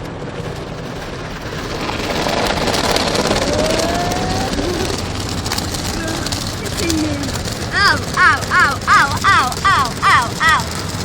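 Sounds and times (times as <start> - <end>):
spinning car wash brushes: 0.2 - 11.0.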